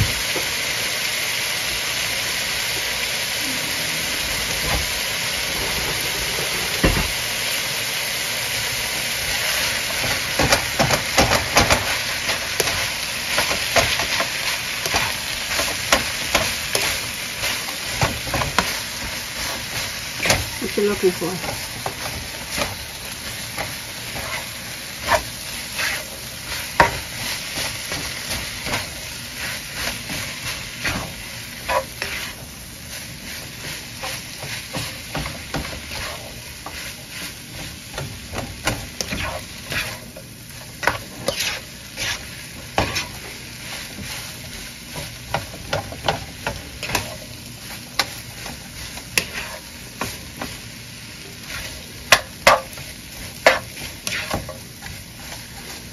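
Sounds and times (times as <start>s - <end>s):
rice sizzling in frying pan: 0.0s - 55.9s
spatula scraping a pan: 10.4s - 50.6s, 51.3s - 55.9s.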